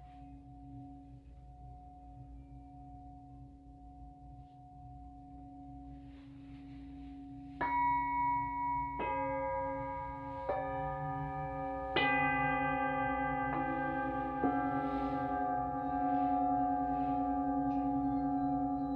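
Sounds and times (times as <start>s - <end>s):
singing bowls ringing: 0.0s - 18.9s.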